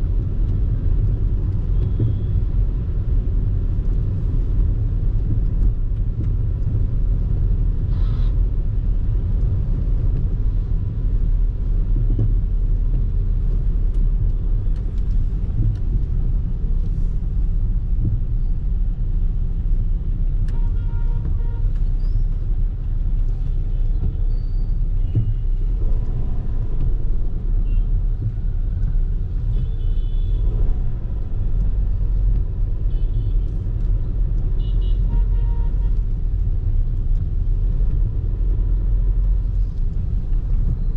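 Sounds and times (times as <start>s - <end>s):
vehicle driving rumble: 0.0s - 40.9s.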